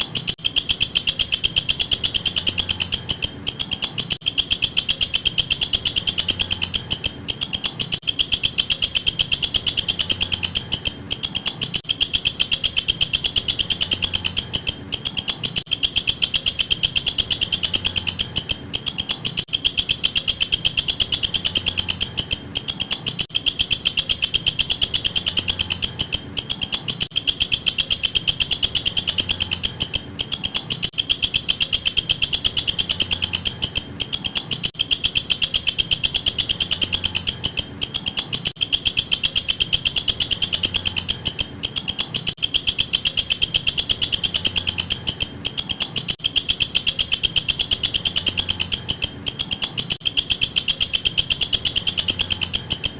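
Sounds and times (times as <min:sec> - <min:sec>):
katydid trilling: 0:00.0 - 0:52.9.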